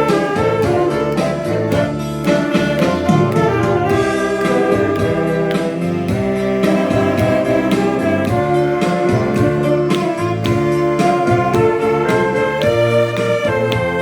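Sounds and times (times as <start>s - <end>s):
saxophone ensemble melody: 0.0s - 14.0s
steady beat: 0.0s - 14.0s.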